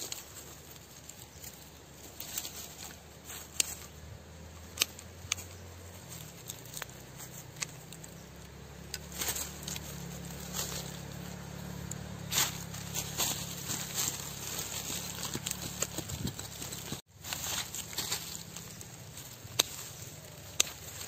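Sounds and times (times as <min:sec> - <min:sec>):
dry leaf litter rustling: 0:00.0 - 0:21.0
pruning shears snipping roots: 0:00.0 - 0:21.0.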